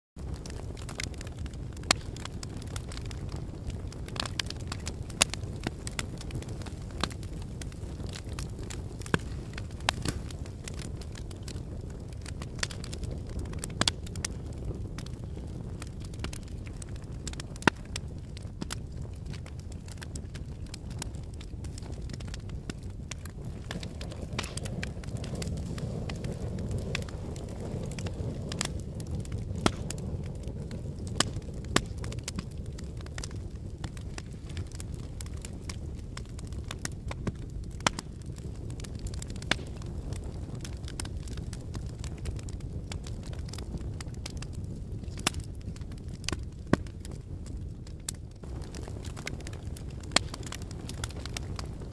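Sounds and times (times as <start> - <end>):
flames rushing: 0.2 - 51.9
low fire rumble: 0.2 - 51.9
wood fire crackling and popping: 0.2 - 51.9.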